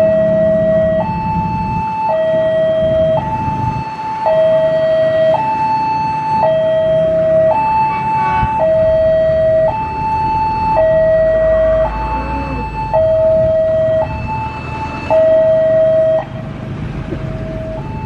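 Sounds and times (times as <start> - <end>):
level crossing two-tone alarm: 0.0 - 16.4, 17.3 - 18.0.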